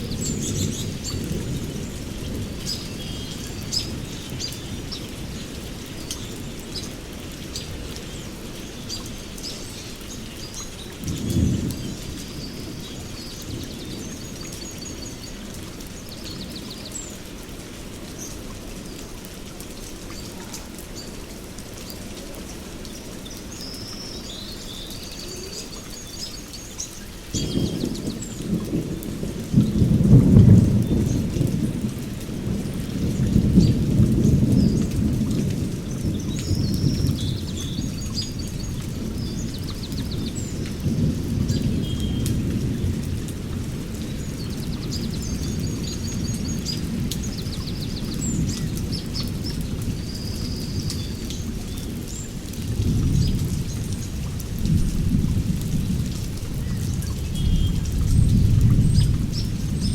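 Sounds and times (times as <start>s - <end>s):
songbirds chirping and trilling: 0.0s - 19.1s, 19.7s - 31.7s, 32.6s - 54.3s.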